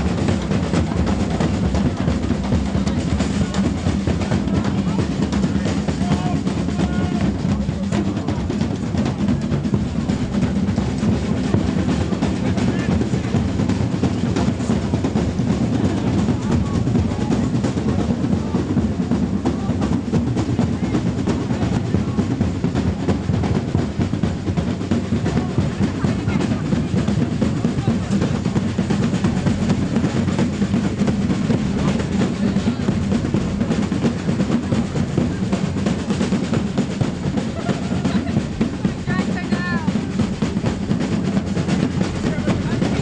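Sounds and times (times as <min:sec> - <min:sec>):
bass drum: 0:00.0 - 0:43.0
snare drum: 0:00.0 - 0:43.0.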